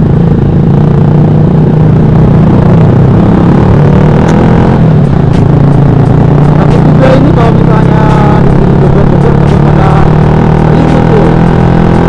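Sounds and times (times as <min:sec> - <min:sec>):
motorcycle engine through loud exhaust: 0:00.0 - 0:12.0.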